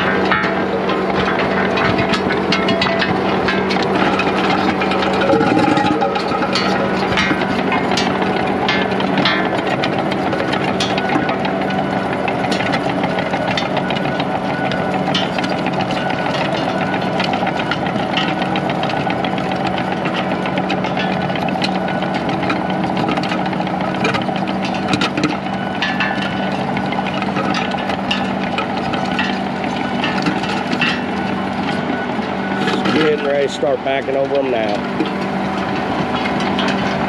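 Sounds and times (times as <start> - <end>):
clicks and rattles: 0.0 - 32.0
diesel engine running: 0.0 - 37.0.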